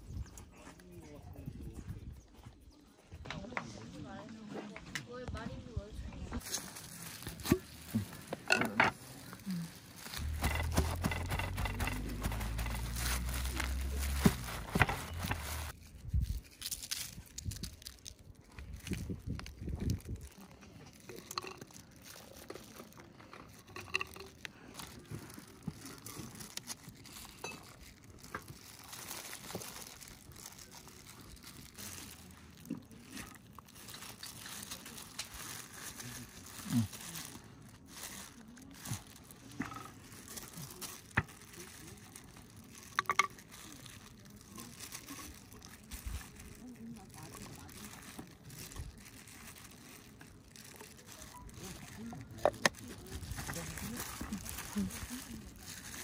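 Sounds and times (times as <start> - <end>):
objects being handled: 6.4 - 56.0.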